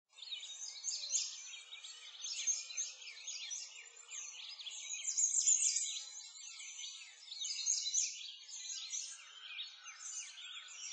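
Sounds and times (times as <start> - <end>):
small birds chirping: 0.1 - 10.9.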